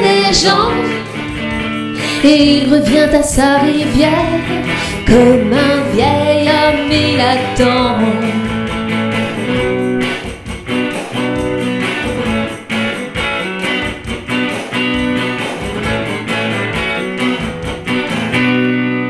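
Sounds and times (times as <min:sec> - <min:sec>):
electric guitar strumming chords: 0:00.0 - 0:19.0.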